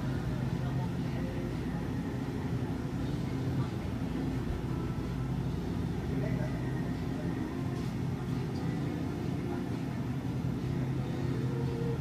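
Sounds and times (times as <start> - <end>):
faint background chatter: 0.0 - 12.0
steady low hum: 0.0 - 12.0.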